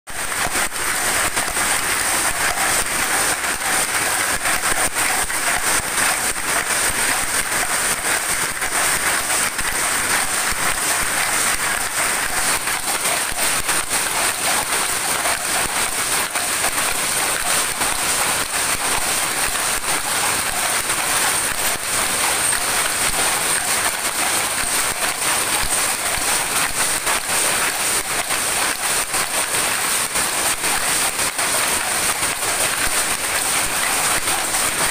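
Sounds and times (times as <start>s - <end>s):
high machine whine: 0.1s - 34.9s
loom rapid clatter: 0.1s - 34.9s.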